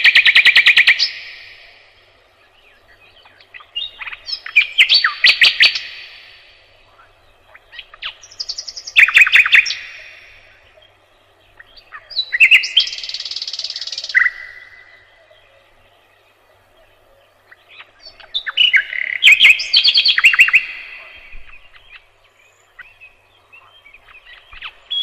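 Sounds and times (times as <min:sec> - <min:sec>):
nightingale singing: 0:00.0 - 0:25.0.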